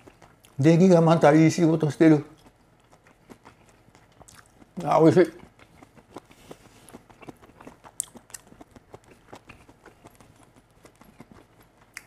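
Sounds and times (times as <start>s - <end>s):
person chewing: 0.0s - 0.6s, 1.8s - 12.0s.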